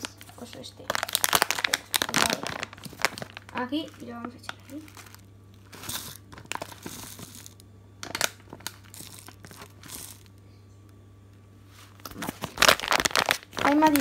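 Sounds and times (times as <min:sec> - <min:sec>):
plastic packet crinkling: 0:00.0 - 0:10.4, 0:11.9 - 0:14.0.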